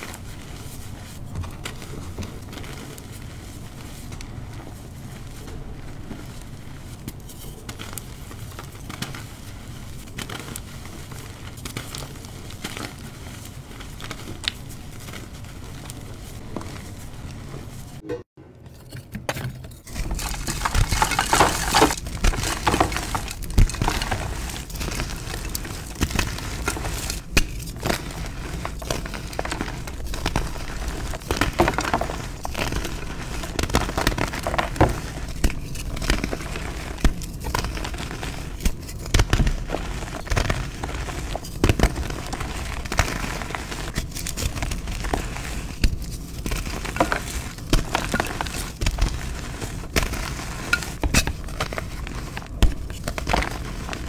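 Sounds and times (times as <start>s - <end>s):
hands crushing chalk: 0.0s - 17.8s, 19.7s - 54.0s.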